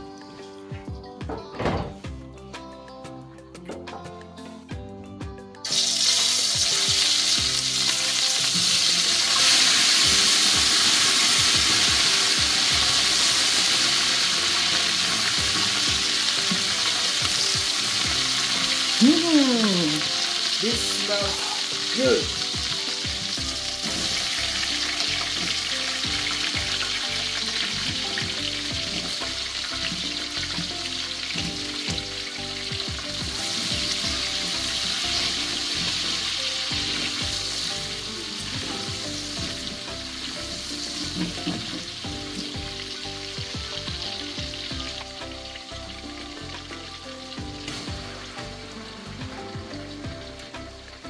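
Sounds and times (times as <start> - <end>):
onions sizzling in oil: 5.6 - 51.0.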